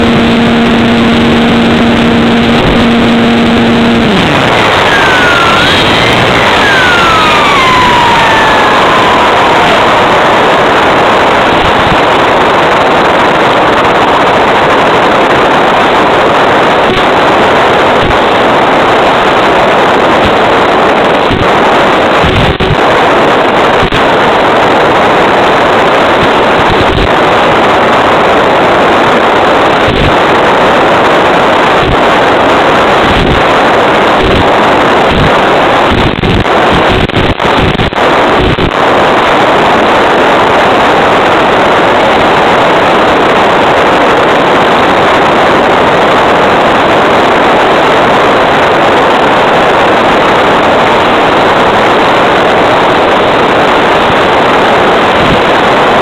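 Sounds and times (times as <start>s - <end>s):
radio crackles: 0.0s - 56.0s
video link hiss: 0.0s - 56.0s.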